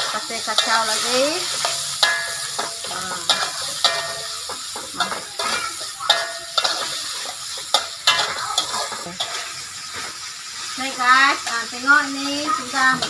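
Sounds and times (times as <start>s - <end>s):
frying sizzle: 0.0s - 13.0s
metal spatula scraping a wok: 0.0s - 13.0s.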